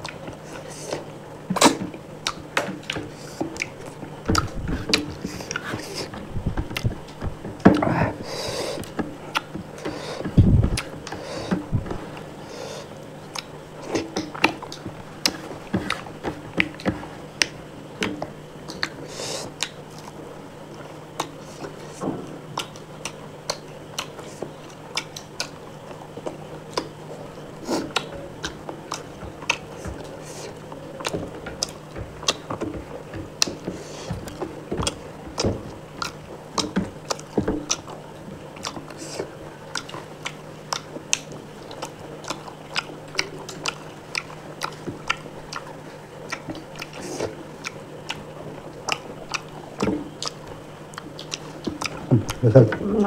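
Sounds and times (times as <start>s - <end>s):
person chewing and biting food: 0.0s - 52.5s.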